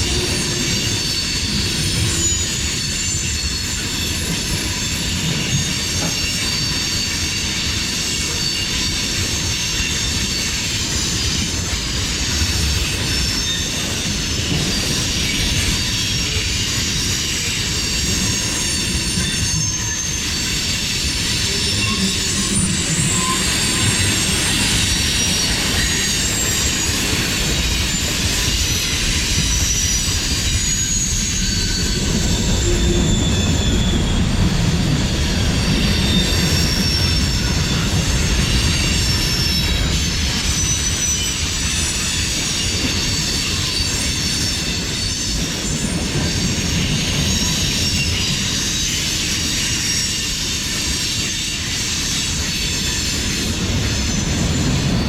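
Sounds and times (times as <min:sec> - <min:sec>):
high wheel squeal: 0:00.0 - 0:55.0
steel wheels rumbling on rails: 0:00.0 - 0:55.0.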